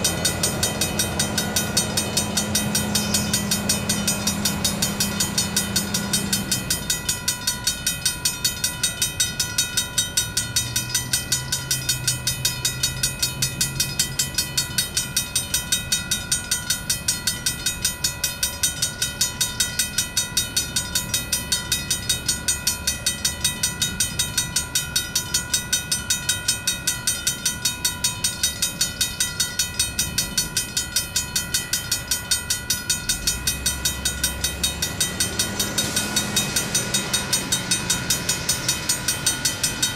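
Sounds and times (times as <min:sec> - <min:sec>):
low engine drone: 0:00.0 - 0:39.9
railroad crossing bell ringing: 0:00.0 - 0:39.9.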